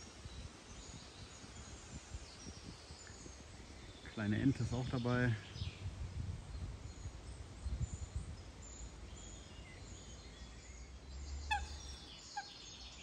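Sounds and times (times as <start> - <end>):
small songbirds twittering: 0.0 - 13.0.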